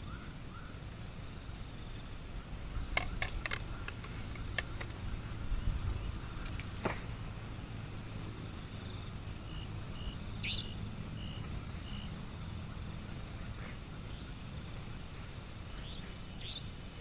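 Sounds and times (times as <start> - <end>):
wind and rain rumble: 0.0 - 17.0.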